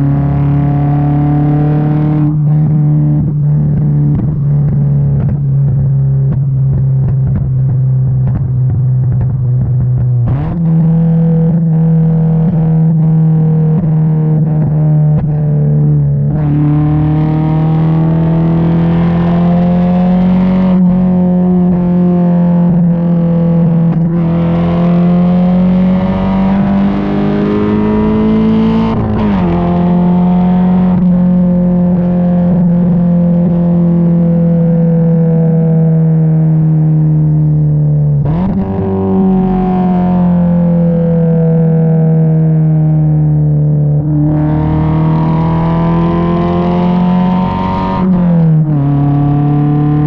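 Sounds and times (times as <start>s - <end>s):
car engine droning through exhaust: 0.0s - 50.0s.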